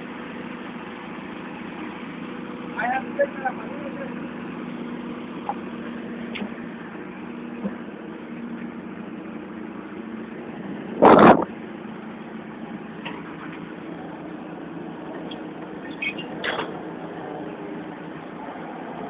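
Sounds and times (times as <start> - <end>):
forklift engine idling: 0.0 - 19.0.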